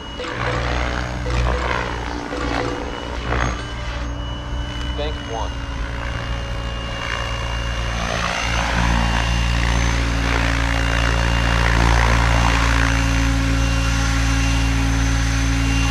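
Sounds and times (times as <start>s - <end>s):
rc helicopter motor hum: 0.0s - 15.9s
rushing rotor blade noise: 0.0s - 15.9s.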